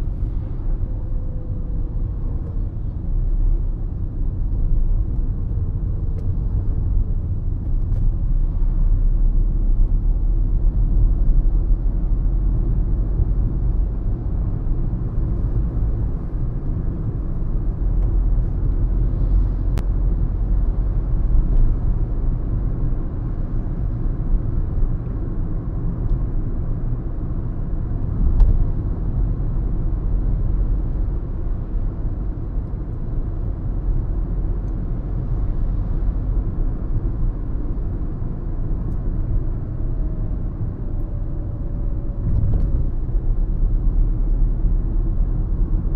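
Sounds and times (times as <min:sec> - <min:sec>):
car interior road and engine noise: 0:00.0 - 0:45.9.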